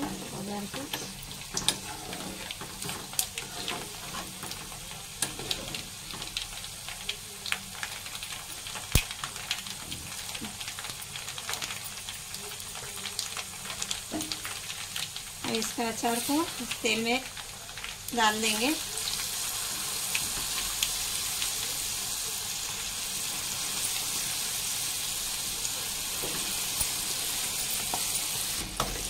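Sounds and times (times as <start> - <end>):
hot oil sizzling and crackling: 0.0 - 29.0.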